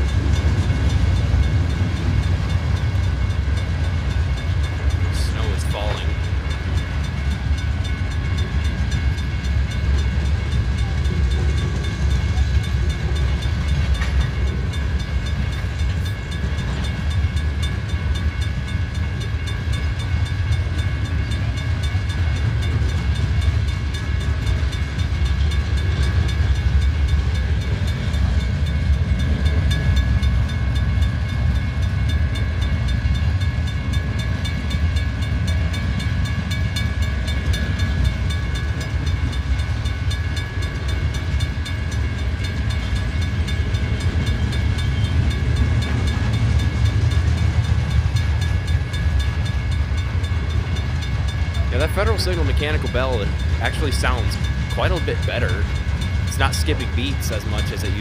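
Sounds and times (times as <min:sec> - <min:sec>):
crossing bell ringing: 0:00.0 - 0:58.0
train cars rumbling: 0:00.0 - 0:58.0.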